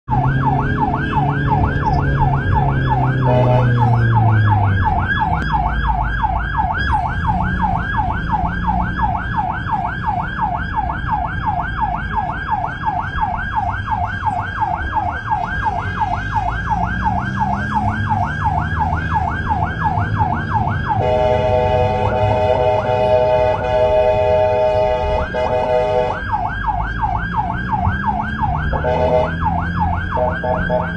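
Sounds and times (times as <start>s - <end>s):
ambulance siren yelping: 0.1s - 30.9s
low vehicle rumble: 0.1s - 30.9s.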